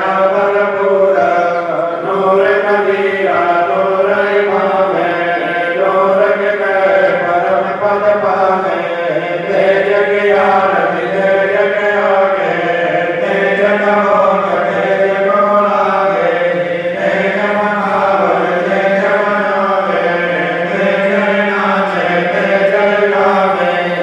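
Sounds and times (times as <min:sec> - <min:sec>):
devotional chant singing: 0:00.0 - 0:24.0.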